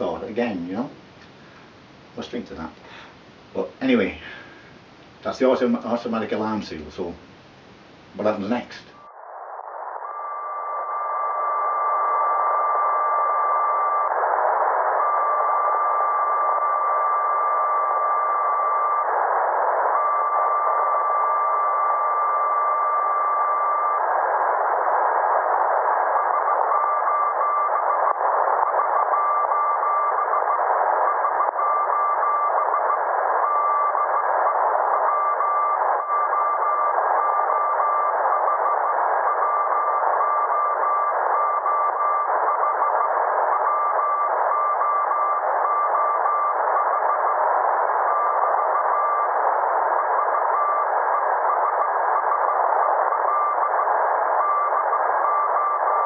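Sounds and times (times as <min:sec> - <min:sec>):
radio static: 0:05.2 - 0:07.2, 0:07.8 - 0:56.0.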